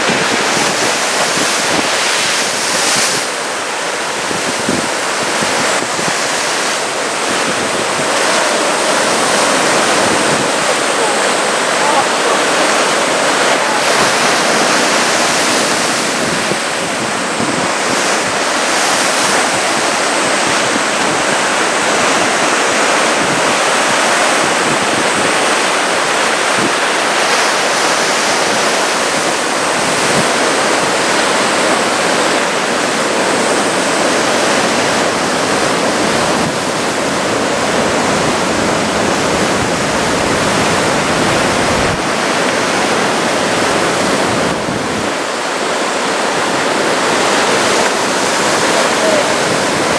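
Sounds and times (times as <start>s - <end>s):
ocean waves breaking on shore: 0.0s - 49.9s.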